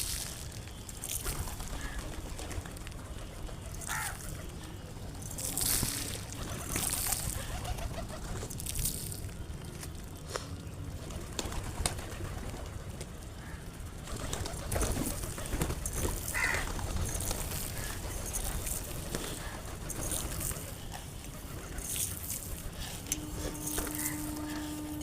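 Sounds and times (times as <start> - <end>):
pigeons cooing: 0.0 - 9.6, 10.6 - 25.0.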